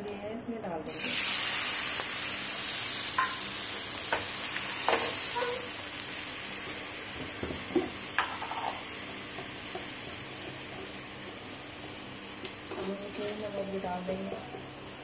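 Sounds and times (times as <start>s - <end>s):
paste sizzling in hot oil: 0.9s - 15.0s.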